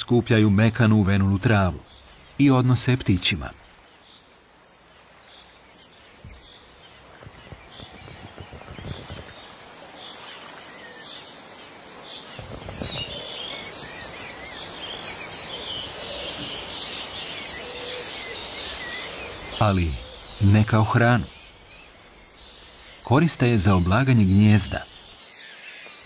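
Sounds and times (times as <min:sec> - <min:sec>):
small birds chirping: 0:00.0 - 0:26.0
low rustling noise: 0:01.0 - 0:10.7, 0:11.7 - 0:25.1.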